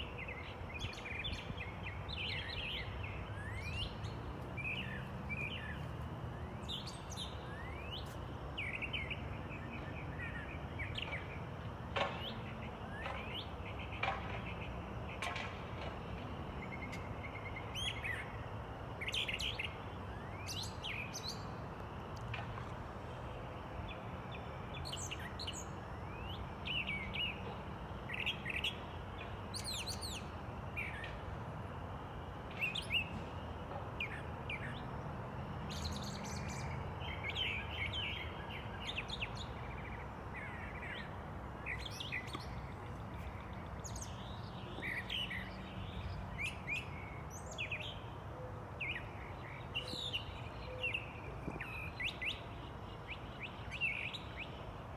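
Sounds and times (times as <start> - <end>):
songbirds chirping and whistling: 0.0 - 54.9.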